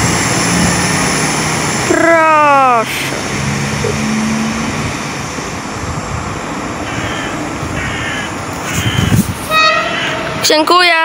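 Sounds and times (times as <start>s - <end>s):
trains rumbling on rails: 0.0s - 11.0s.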